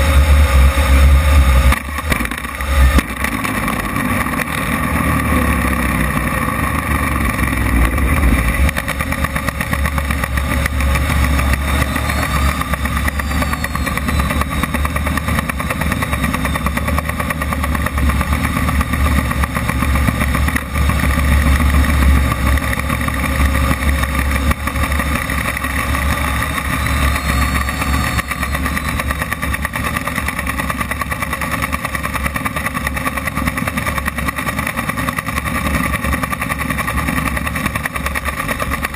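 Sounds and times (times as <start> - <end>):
low rumble: 0.0 - 32.6
model jet turbine running: 0.0 - 38.9.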